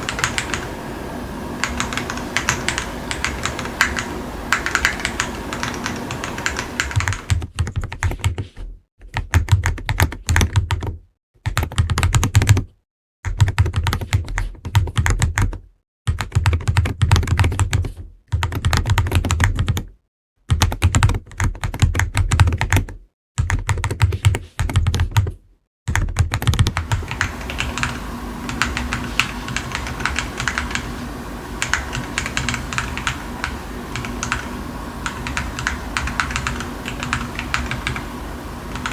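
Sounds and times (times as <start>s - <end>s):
fast typing on keyboard: 0.0s - 0.8s, 1.5s - 12.7s, 13.3s - 19.9s, 20.5s - 25.3s, 25.9s - 38.9s.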